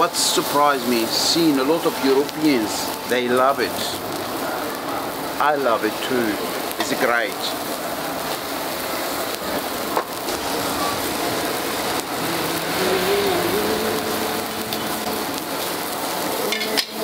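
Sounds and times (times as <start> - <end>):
fat dripping onto hot coals: 0.0 - 17.0
kebabs sizzling on charcoal grill: 0.0 - 17.0.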